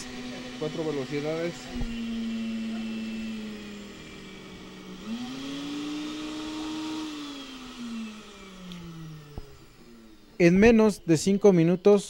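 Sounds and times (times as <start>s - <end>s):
blender motor whining: 0.0s - 12.0s.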